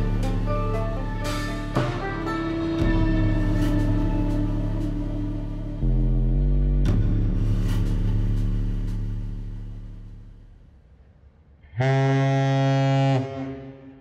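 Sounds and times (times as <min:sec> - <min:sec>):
deep horn blast: 0:00.0 - 0:10.5, 0:11.6 - 0:14.0
background music: 0:00.0 - 0:14.0.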